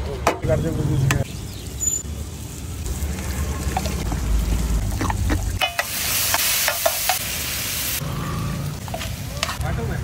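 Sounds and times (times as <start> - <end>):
onions sizzling on griddle: 0.4 - 10.0.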